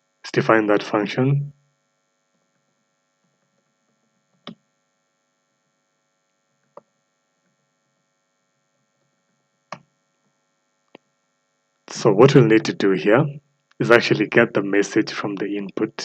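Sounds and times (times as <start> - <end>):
faint mains hum: 0.0 - 16.0.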